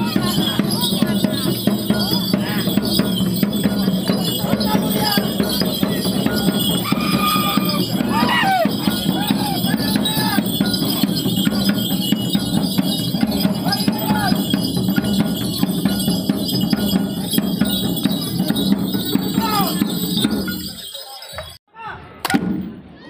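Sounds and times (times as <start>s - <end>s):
fast percussion music: 0.0s - 21.6s
voices calling out: 0.0s - 23.0s.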